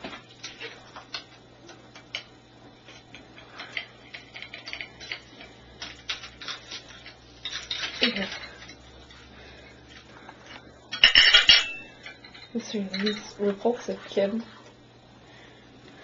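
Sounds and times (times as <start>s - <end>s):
utensils clicking and clinking: 0.0s - 9.3s, 9.9s - 14.5s
utensils clattering: 0.0s - 14.5s.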